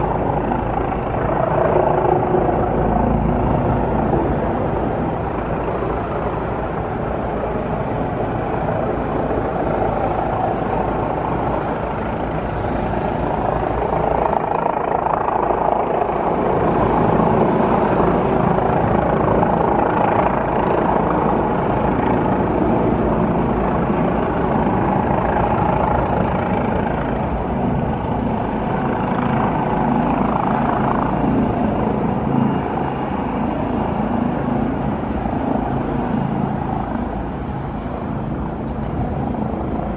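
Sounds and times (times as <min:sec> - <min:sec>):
helicopter rotor and engine whir: 0:00.0 - 0:39.9.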